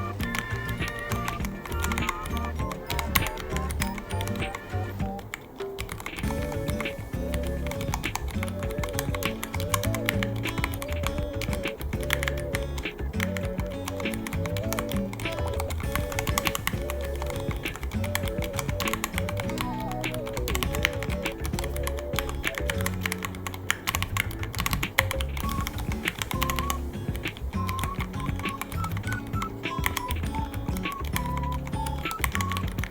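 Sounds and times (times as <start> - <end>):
background music with beat: 0.0 - 32.9
rapid mechanical keyboard typing: 0.0 - 32.9.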